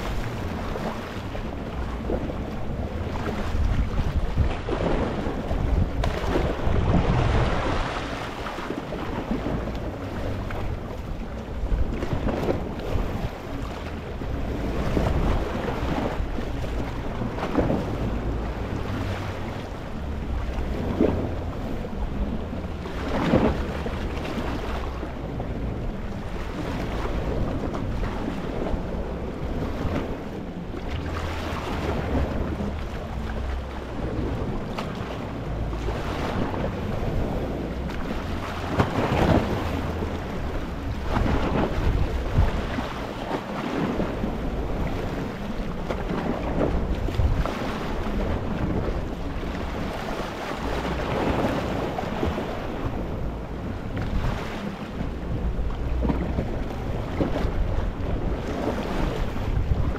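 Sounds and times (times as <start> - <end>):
waves splashing over rocks: 0.0 - 59.9
wind rumble on microphone: 0.0 - 59.9.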